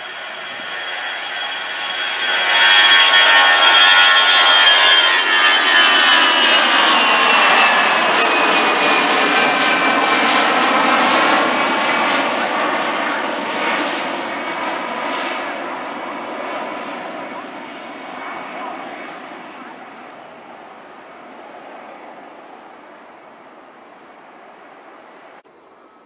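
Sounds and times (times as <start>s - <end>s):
jet engine roar with whine: 0.0s - 25.4s.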